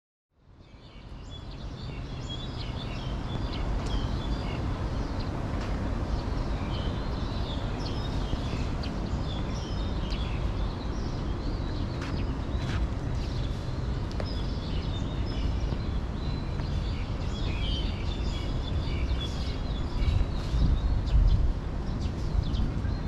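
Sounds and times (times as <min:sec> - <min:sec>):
small birds chirping: 0:00.4 - 0:23.0.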